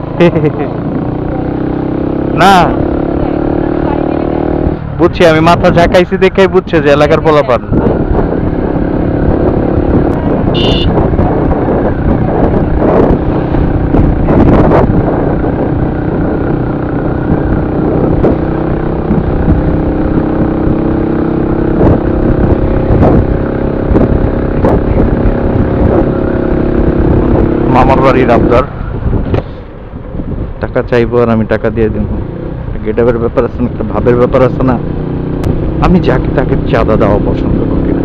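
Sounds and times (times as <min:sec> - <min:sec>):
motorcycle engine running: 0:00.0 - 0:30.5, 0:31.8 - 0:38.0
wind noise on microphone: 0:01.0 - 0:32.8, 0:33.5 - 0:38.0.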